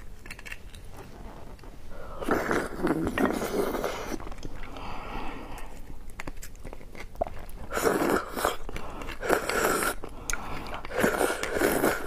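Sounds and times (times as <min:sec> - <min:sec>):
wet mouth clicks and chewing: 0:00.0 - 0:01.0, 0:02.4 - 0:04.8, 0:05.5 - 0:12.0.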